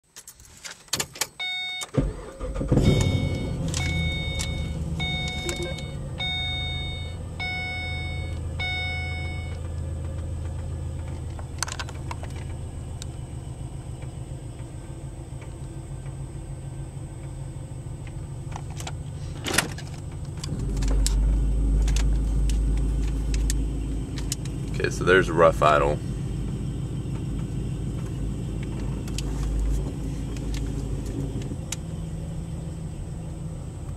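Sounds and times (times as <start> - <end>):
car engine idling: 1.4 - 33.9.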